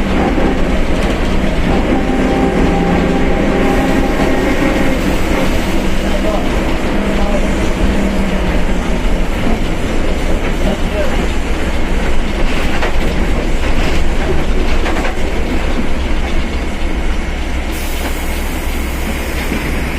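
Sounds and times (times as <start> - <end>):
rattling and clatter: 0.0 - 17.6
bus engine drone: 0.0 - 19.9.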